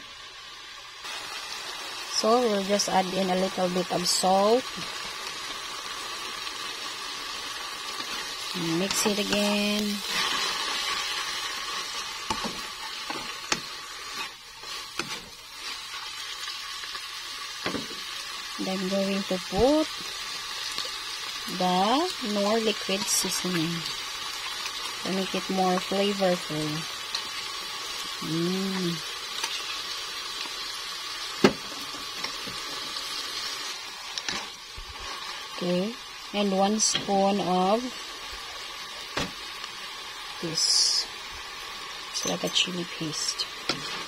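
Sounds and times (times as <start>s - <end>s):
greens sizzling in a wok: 0.0s - 44.0s.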